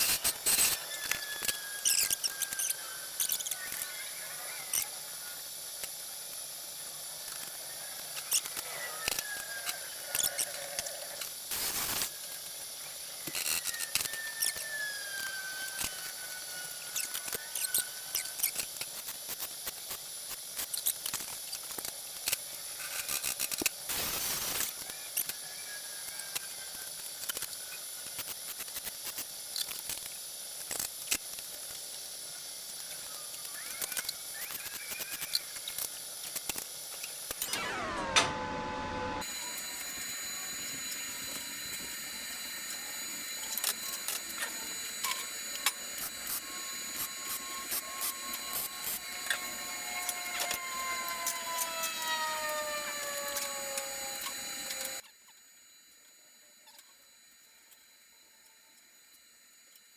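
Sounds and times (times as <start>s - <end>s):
welding arc bursts: 0.0s - 25.4s, 26.4s - 55.0s.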